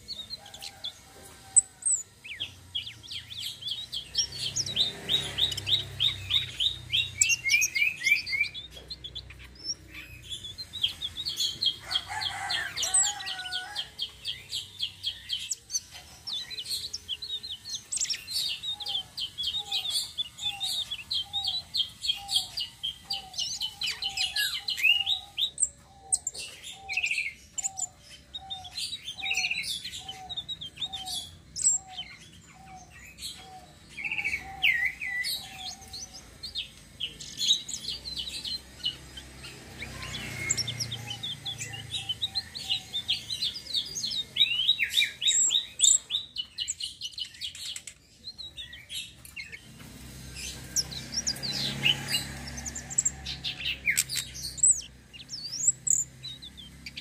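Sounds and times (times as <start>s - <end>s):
songbird trilling: 1.5s - 49.7s, 50.3s - 57.0s.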